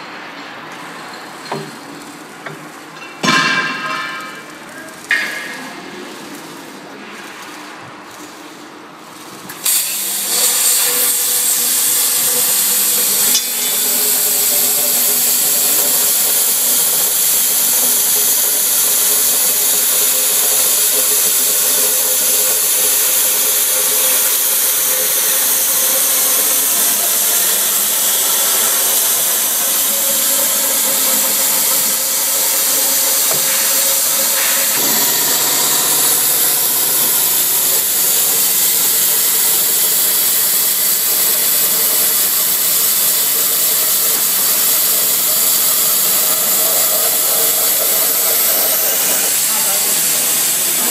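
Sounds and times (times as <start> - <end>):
cutting torch hissing: 9.6 - 50.9.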